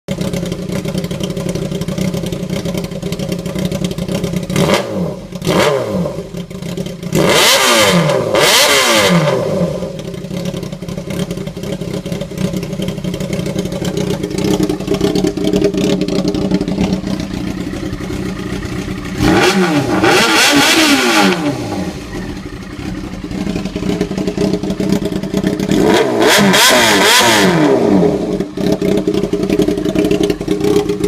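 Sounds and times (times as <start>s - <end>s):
motorcycle engine idling and revving: 0.1s - 31.0s.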